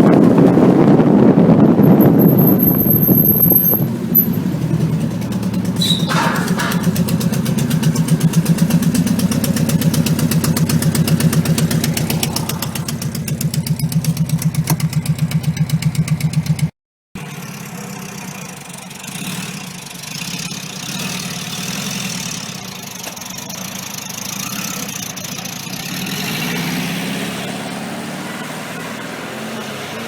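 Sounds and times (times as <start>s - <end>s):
car engine with pulsing exhaust: 0.0s - 30.0s.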